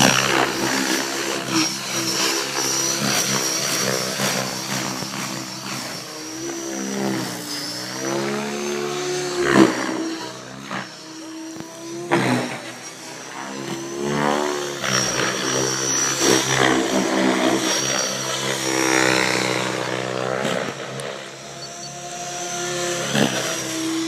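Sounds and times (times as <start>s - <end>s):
rc helicopter rotor whooshing: 0.0s - 24.0s.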